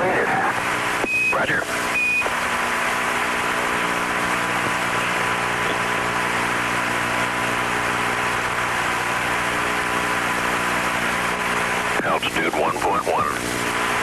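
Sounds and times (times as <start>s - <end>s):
radio channel hiss: 0.1s - 14.0s.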